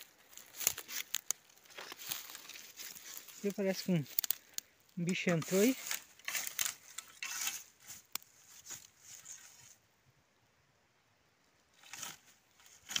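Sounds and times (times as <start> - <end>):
dry grass and straw rustling: 0.0 - 9.9, 11.7 - 13.0.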